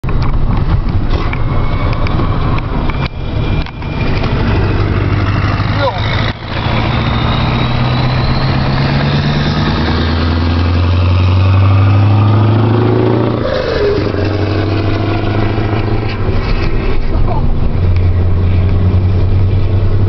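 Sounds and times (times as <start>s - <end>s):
diesel engine accelerating: 0.0s - 20.0s.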